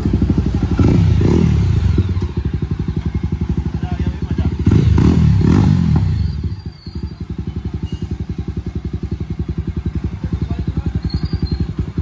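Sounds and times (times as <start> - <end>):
motorcycle engine idling loud exhaust: 0.0 - 12.0.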